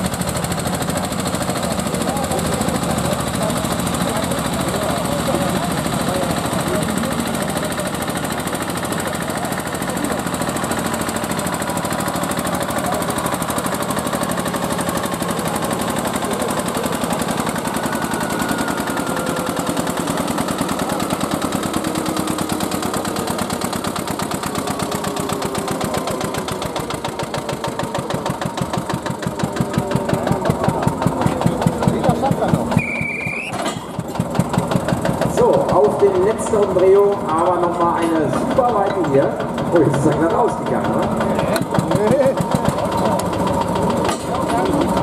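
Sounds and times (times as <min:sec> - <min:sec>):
diesel tractor engine chugging: 0:00.0 - 0:45.0.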